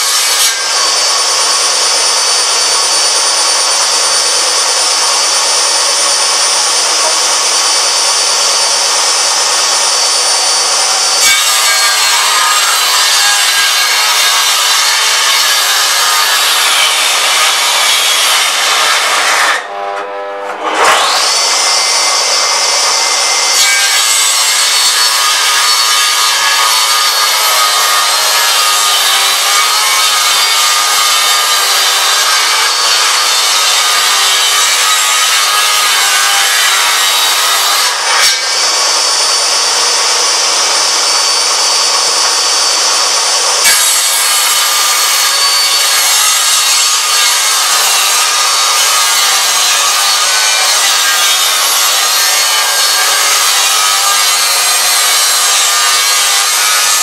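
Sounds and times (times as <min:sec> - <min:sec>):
table saw cutting wood: 0:00.0 - 0:57.0.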